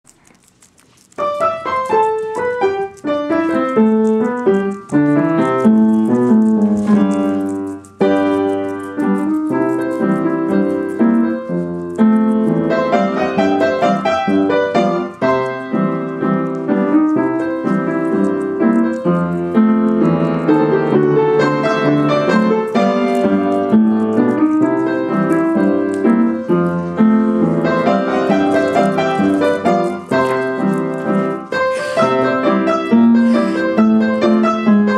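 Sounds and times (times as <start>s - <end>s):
piano music: 1.2s - 34.9s.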